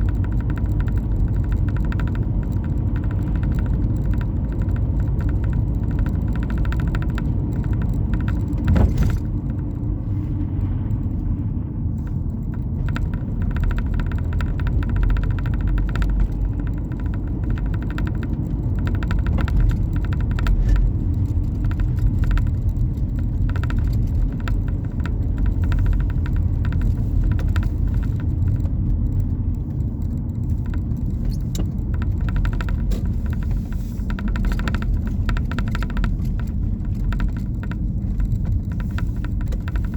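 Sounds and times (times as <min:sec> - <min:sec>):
faint small clicks: 0:00.0 - 0:11.3, 0:11.9 - 0:39.9
steady low rumble: 0:00.0 - 0:39.9.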